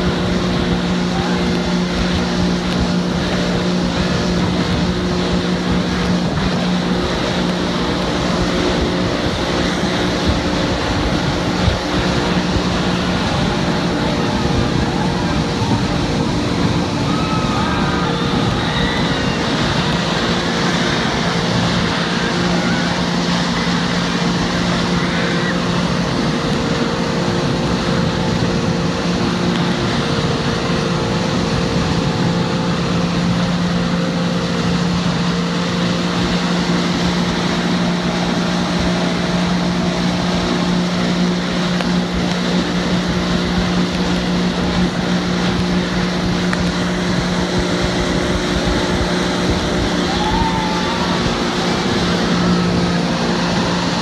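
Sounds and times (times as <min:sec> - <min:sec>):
motorboat engine running: 0:00.0 - 0:54.0
wake water rushing: 0:00.0 - 0:54.0.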